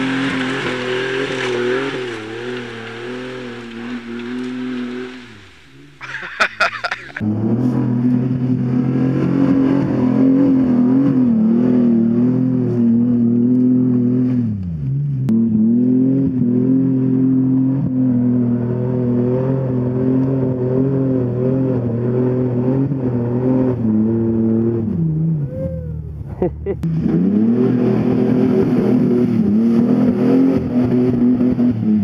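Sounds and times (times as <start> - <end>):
engine revving high under load: 0.0 - 26.2, 26.8 - 32.0.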